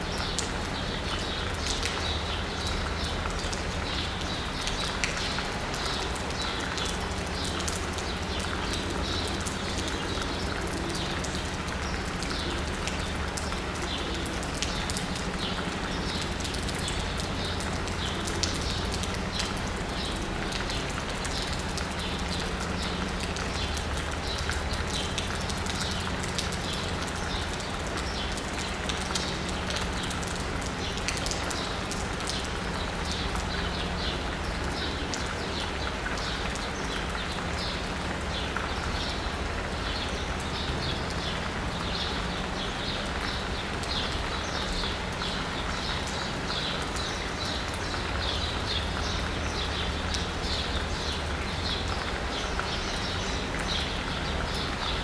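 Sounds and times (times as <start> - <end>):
rain pattering on asphalt and roof: 0.0 - 55.0.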